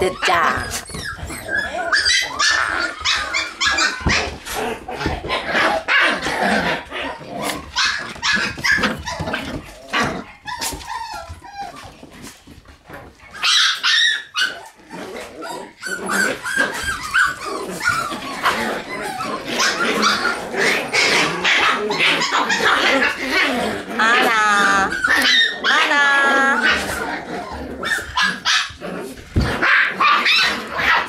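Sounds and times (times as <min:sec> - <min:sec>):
puppies barking and yipping: 0:00.0 - 0:31.0.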